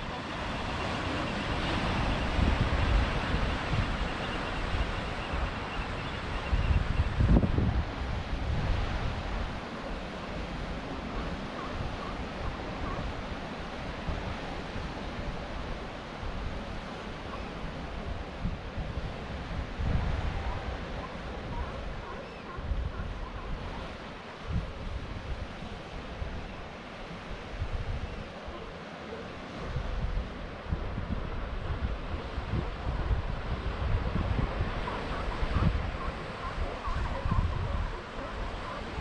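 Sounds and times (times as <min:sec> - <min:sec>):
wind rumbling on microphone: 0:00.0 - 0:28.7, 0:29.5 - 0:39.0
ocean surf: 0:00.0 - 0:39.0.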